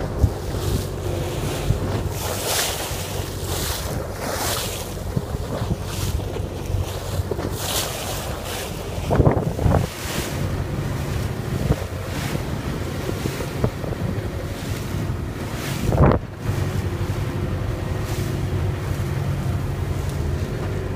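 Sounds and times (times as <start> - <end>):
boat motor running: 0.0 - 20.9
water rushing along hull: 0.0 - 20.9
wind buffeting microphone: 0.0 - 20.9.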